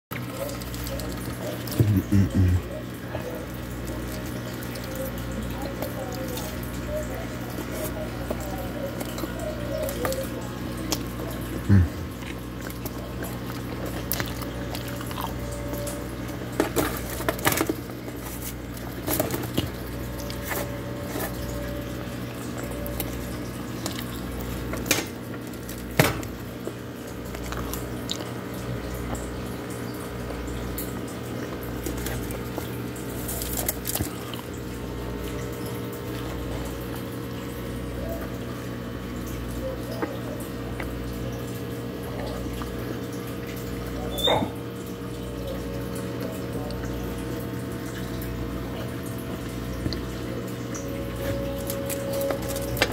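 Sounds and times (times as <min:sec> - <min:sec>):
background hum and hiss: 0:00.1 - 0:52.9.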